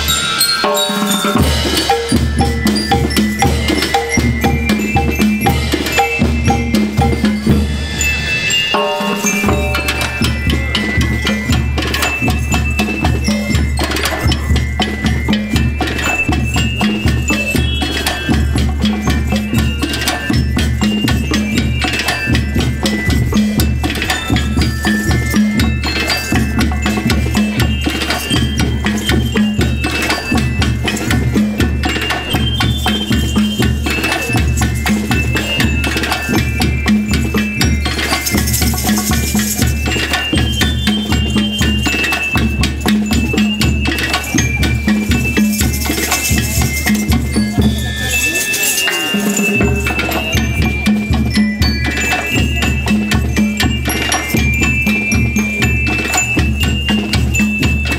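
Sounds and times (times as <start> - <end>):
bell lyres ringing: 0.0 - 57.9
drums beating: 0.0 - 57.9.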